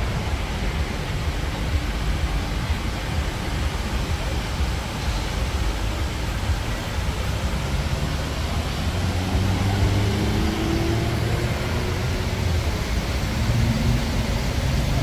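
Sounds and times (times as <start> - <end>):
passing vehicles: 0.0 - 15.0
traffic rumble: 0.0 - 15.0.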